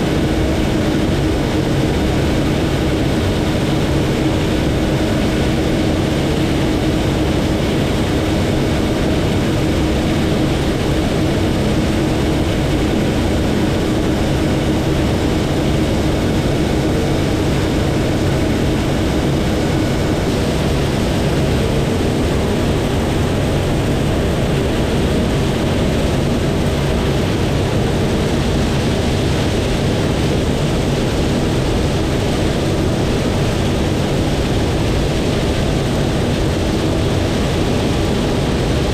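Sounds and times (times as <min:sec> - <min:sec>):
harvest machinery drone: 0:00.0 - 0:38.9
steady hum: 0:00.0 - 0:38.9.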